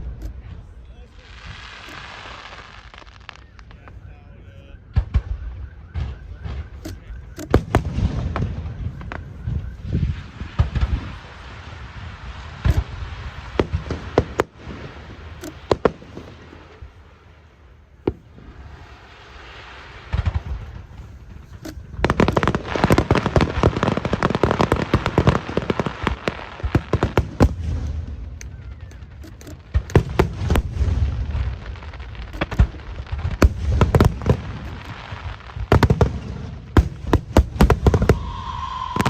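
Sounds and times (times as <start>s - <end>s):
fireworks hissing: 0.0s - 4.2s, 6.6s - 39.0s
fireworks bangs: 0.0s - 39.0s
rapid fireworks crackling: 0.0s - 39.0s.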